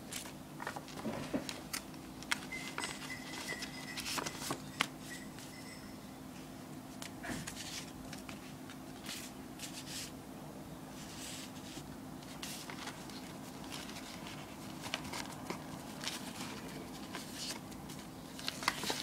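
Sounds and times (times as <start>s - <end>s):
paper stickers rustling: 0.1s - 5.4s, 7.0s - 10.1s, 11.0s - 19.0s.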